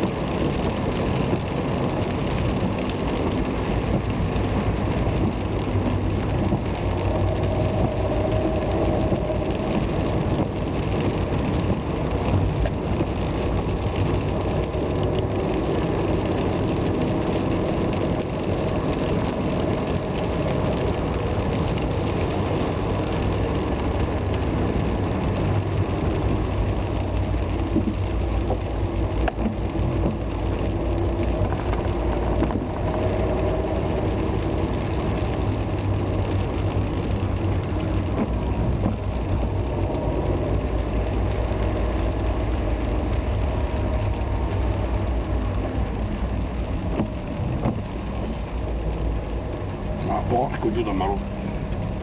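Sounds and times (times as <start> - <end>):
tyre noise on wet road: 0.0 - 52.0.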